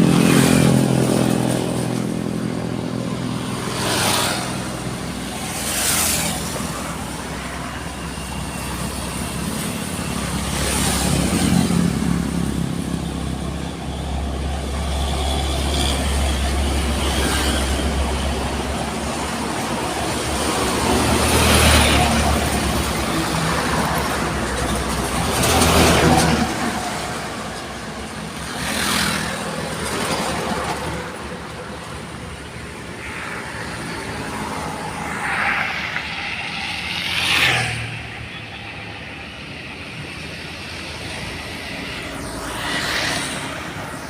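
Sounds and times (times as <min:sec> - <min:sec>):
road traffic engine rumble: 0:00.0 - 0:44.0
vehicles passing by: 0:00.0 - 0:44.0.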